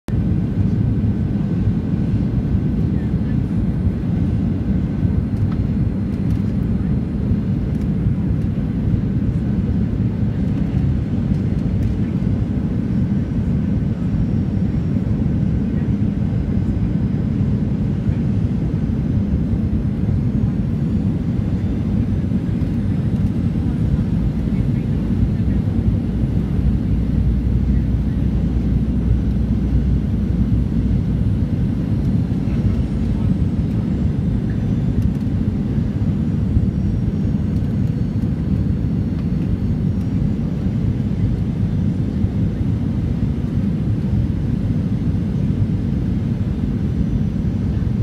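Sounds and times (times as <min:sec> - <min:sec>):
airliner engines rumbling: 0:00.1 - 0:48.0
faint steady whine: 0:00.7 - 0:48.0.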